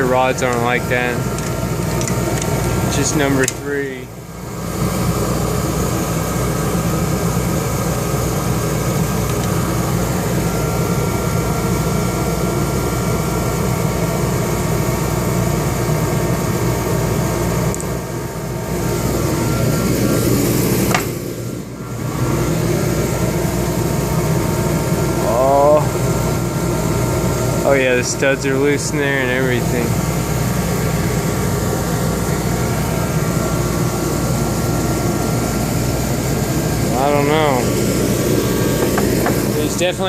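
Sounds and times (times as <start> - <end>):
machine droning: 0.0 - 40.0.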